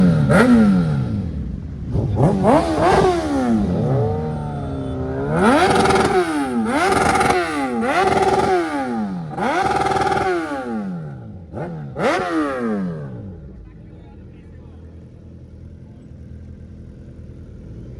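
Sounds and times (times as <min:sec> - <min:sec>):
motorcycle engine revving: 0:00.0 - 0:17.9.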